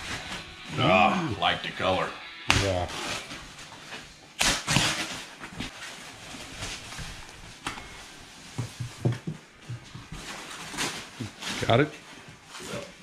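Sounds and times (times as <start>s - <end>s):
foam wrap rustling: 0.0s - 0.9s, 2.6s - 13.0s.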